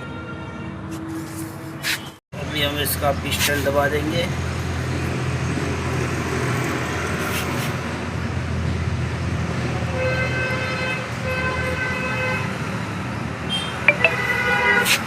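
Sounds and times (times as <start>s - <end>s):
road traffic rumble: 0.9s - 15.0s.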